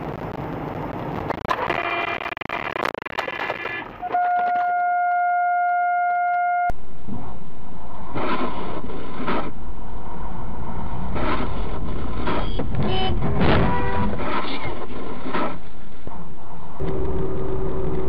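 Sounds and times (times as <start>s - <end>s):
road and engine noise in car: 0.0s - 4.2s, 6.7s - 18.0s.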